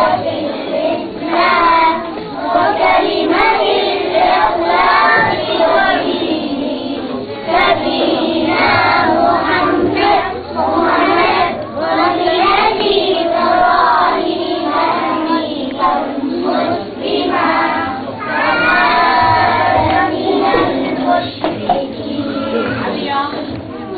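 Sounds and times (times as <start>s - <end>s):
children singing in unison: 0.0s - 23.9s.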